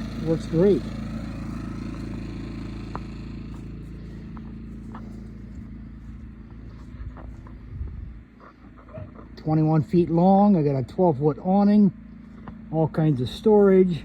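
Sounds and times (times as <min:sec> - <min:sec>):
portable generator running: 0:00.0 - 0:14.0.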